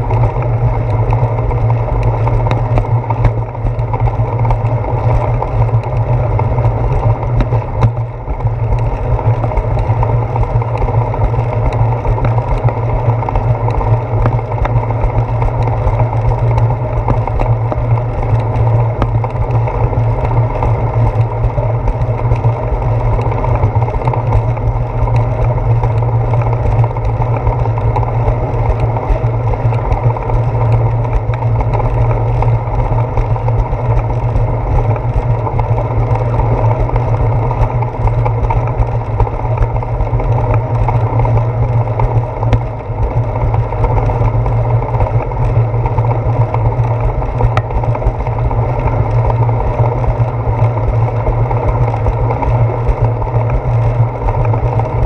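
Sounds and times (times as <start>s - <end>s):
bicycle road vibration: 0.0s - 55.0s
wind rumble: 0.0s - 55.0s.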